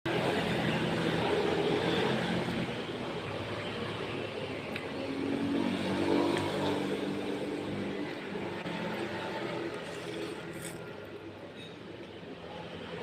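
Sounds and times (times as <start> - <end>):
noisy background: 0.1 - 13.0.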